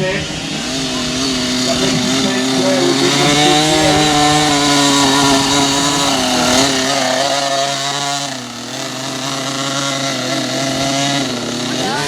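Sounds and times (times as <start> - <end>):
motocross bike engine running: 0.0 - 12.0.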